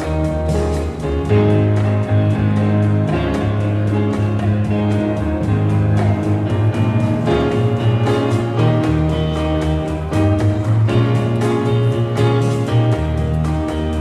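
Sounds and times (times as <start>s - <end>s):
guitar-led instrumental music: 0.0s - 14.0s.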